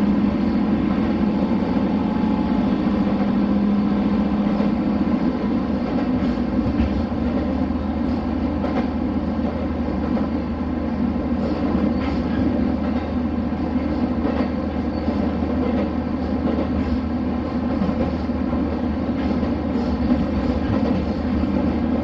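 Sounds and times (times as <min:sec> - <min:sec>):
railcar engine and wheels rumbling: 0:00.0 - 0:22.0.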